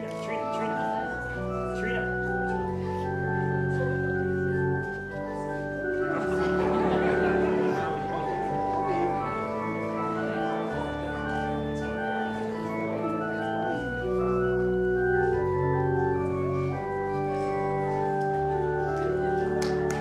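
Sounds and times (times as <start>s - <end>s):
organ playing slow chords: 0.0s - 20.0s.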